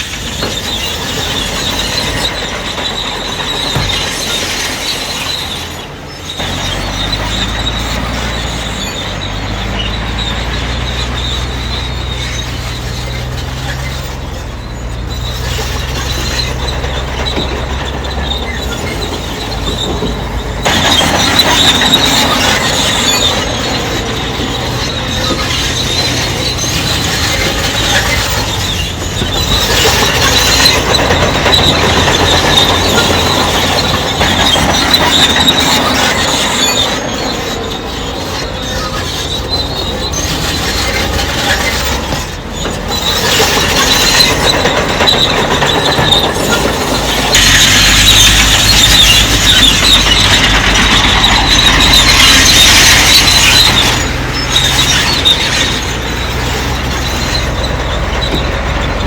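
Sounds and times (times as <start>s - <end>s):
diesel engine running: 0.0s - 59.0s
steel tracks squealing and clattering: 0.0s - 59.0s.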